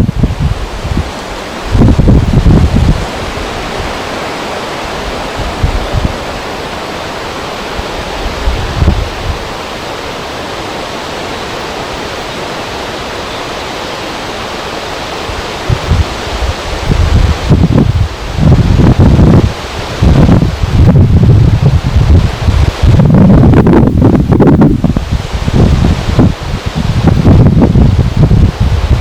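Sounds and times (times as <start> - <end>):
wind buffeting microphone: 0.0 - 12.9, 15.2 - 29.0
wind rushing: 0.0 - 29.0.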